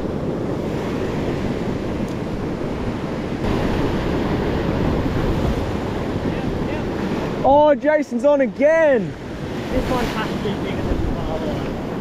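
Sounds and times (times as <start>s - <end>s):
surf washing over sand: 0.0s - 12.0s
wind buffeting microphone: 0.0s - 12.0s.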